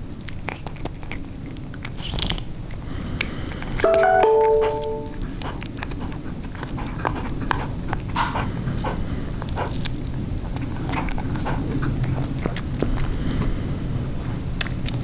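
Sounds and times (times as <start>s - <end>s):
cat chewing meat and bone: 0.0s - 15.0s.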